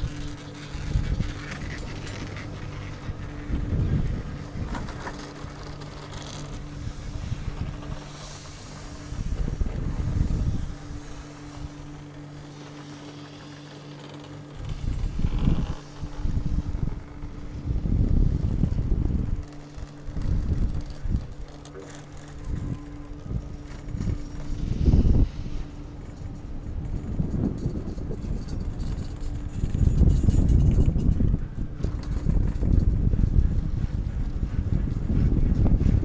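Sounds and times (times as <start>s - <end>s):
wind gusts on microphone: 0.0s - 12.1s, 14.6s - 36.0s
chairlift mechanical hum: 0.0s - 36.0s.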